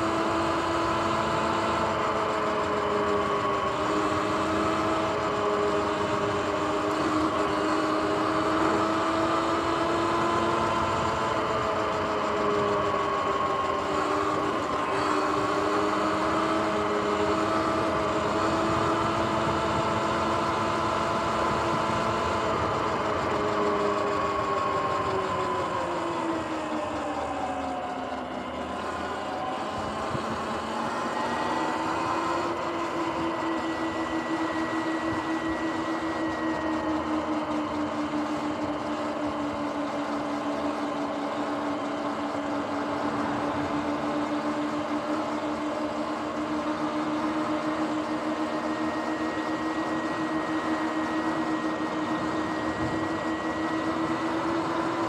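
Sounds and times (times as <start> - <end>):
electric dirt bike motor whine: 0.0 - 55.0.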